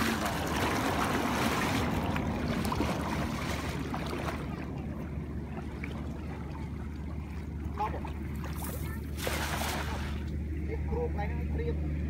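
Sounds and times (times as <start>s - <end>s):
wind rumbling on microphone: 0.0s - 10.4s
water sloshing: 0.0s - 10.8s.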